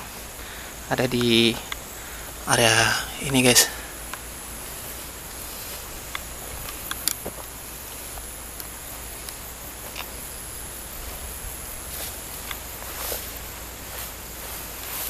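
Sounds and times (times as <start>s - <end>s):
footsteps through tall grass: 0.0s - 15.0s
high-pitched insect drone: 0.0s - 15.0s.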